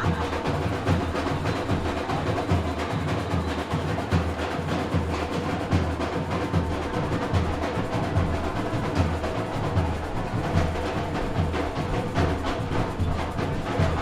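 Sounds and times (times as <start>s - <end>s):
hand drums playing groove: 0.0s - 14.0s.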